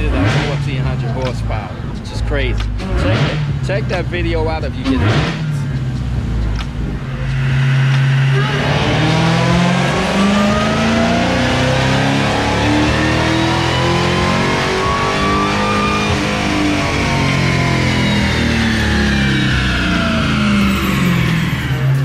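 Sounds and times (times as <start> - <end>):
car engine at full throttle: 0.0 - 22.0
supercharger whine: 0.0 - 22.0.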